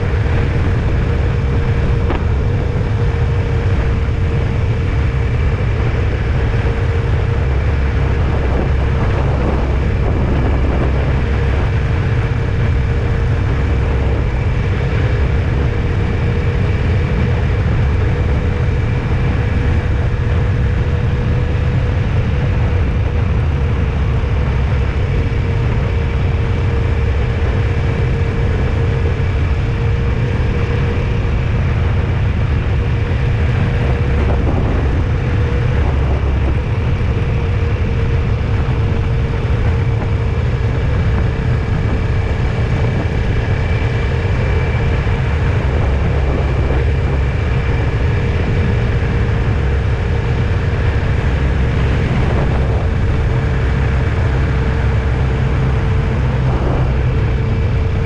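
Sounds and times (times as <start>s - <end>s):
car road and engine rumble: 0.0s - 58.0s
faint steady whine: 0.0s - 58.0s.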